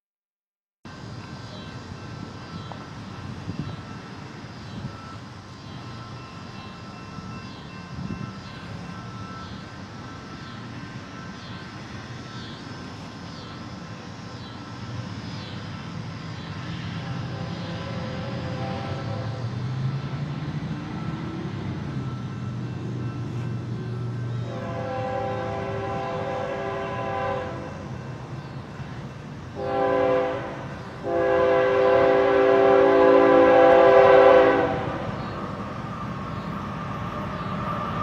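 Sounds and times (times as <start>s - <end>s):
distant freight train rumble: 0.9s - 38.0s.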